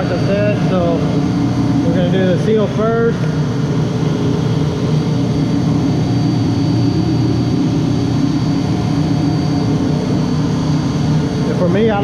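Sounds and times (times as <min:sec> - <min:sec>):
faint high whine: 0:00.0 - 0:12.0
machinery low hum: 0:00.0 - 0:12.0.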